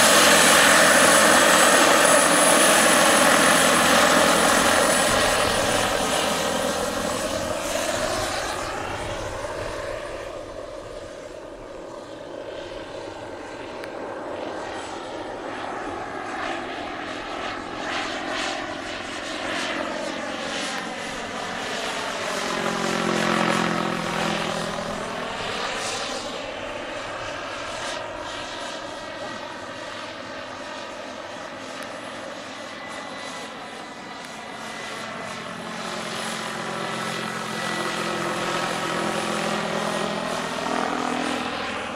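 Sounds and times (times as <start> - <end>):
helicopter rotor noise: 0.0 - 41.9
model helicopter turbine whine: 0.0 - 41.9.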